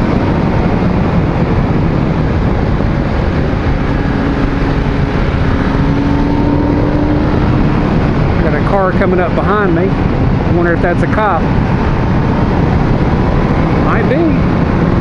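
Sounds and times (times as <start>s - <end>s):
motorcycle engine cruising: 0.0s - 15.0s
wind rush on microphone: 0.0s - 15.0s.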